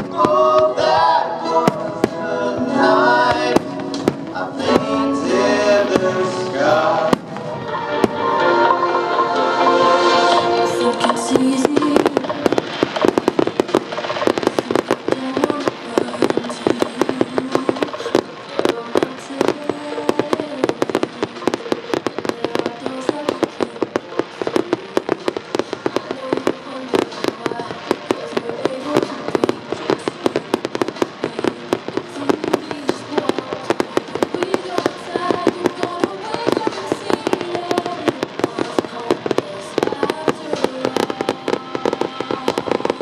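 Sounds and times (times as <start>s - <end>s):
fireworks popping and banging: 0.0s - 8.4s, 10.2s - 43.0s
music soundtrack: 0.0s - 43.0s.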